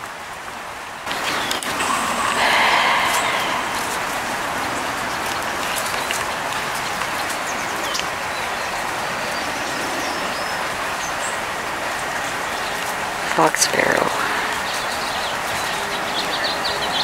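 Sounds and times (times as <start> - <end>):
songbirds chirping: 1.1 - 17.0.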